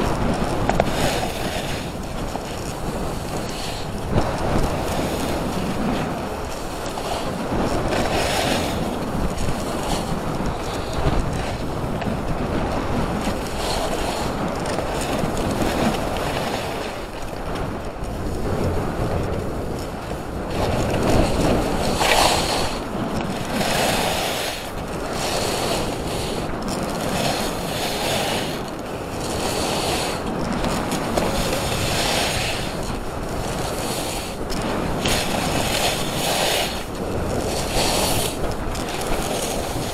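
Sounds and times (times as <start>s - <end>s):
wind rushing over microphone: 0.0s - 39.9s
skis hissing and scraping on snow: 0.1s - 17.0s, 20.5s - 39.9s.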